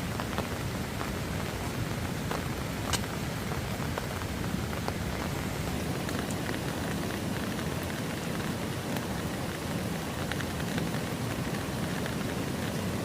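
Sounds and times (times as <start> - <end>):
raindrops ticking on surfaces: 0.0 - 13.0
steady rain falling: 0.0 - 13.0.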